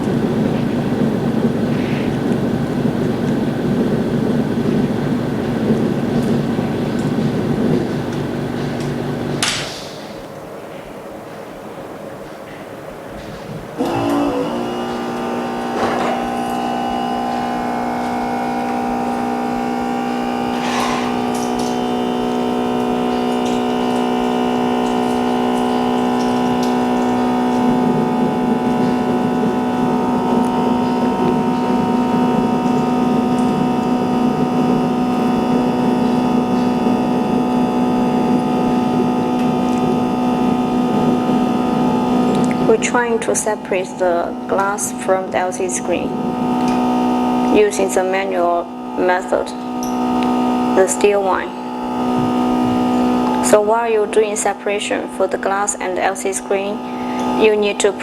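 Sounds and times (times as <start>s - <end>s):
electric machine humming: 0.0s - 58.0s
rough noisy mechanical layer: 0.0s - 58.0s.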